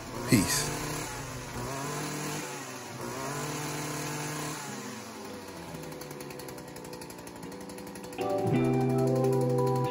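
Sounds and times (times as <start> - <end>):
string trimmer engine running: 0.0 - 9.9.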